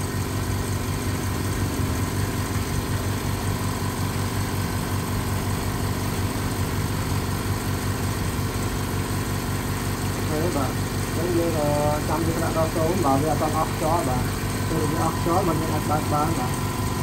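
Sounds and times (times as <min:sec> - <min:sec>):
air compressor motor hum: 0:00.0 - 0:17.0.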